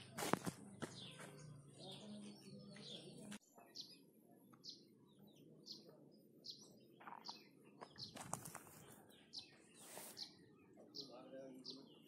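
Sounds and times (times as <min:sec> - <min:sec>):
songbird chirps: 0:00.0 - 0:12.0.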